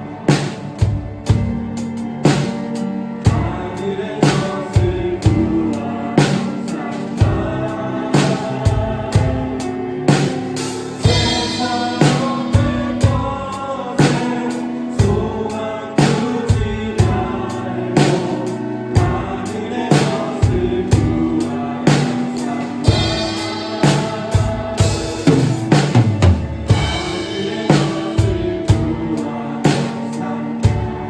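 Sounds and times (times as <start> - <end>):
worship song with sung vocals: 0.0 - 31.0
drum kit hits: 0.3 - 31.0.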